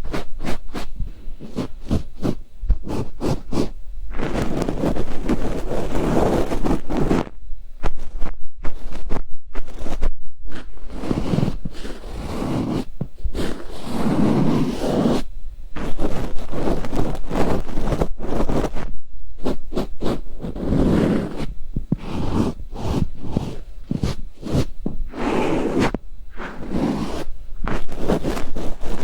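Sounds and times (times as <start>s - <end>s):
tools rubbing microphone: 0.0s - 29.0s
tools scratching microphone: 0.0s - 29.0s.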